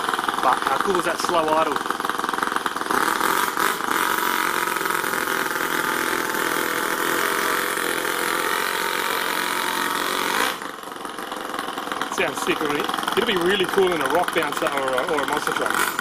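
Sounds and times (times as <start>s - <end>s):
model engine idling: 0.0s - 16.0s.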